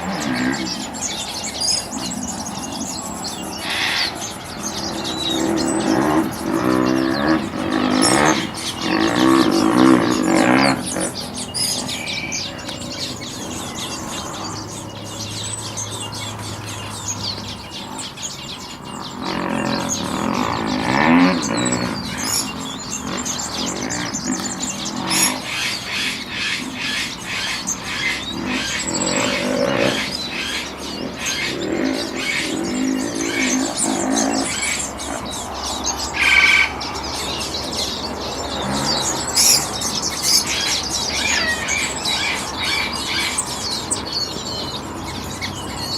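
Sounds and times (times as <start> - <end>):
birds chirping: 0.0 - 45.9
louder lower bird calls: 0.0 - 45.9.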